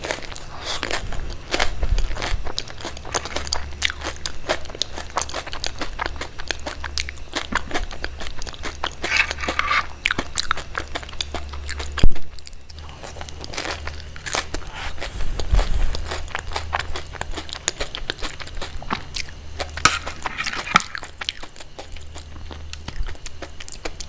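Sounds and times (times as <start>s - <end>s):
crunchy chewing: 0.0s - 24.0s
steady low hum: 0.0s - 24.0s.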